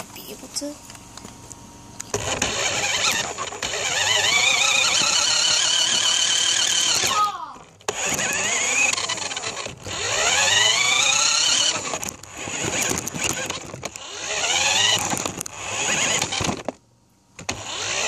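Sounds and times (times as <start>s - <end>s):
toy car motor whining: 2.1s - 16.8s, 17.4s - 18.0s.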